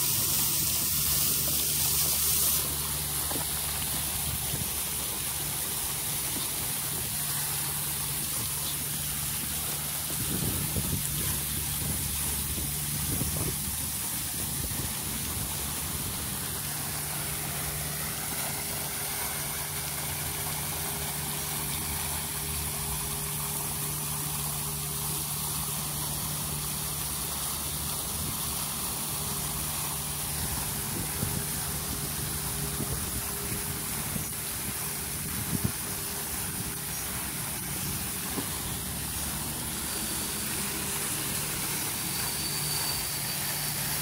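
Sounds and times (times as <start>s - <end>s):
fountain water splashing: 0.0s - 44.0s
steady low hum: 0.0s - 44.0s.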